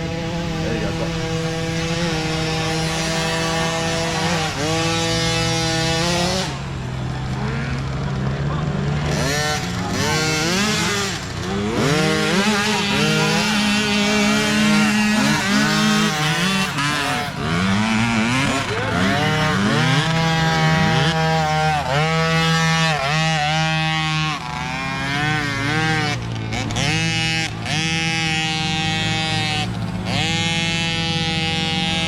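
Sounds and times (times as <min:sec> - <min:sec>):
mini dirt bike engines revving: 0:00.0 - 0:32.0
steady engine note: 0:00.0 - 0:32.0.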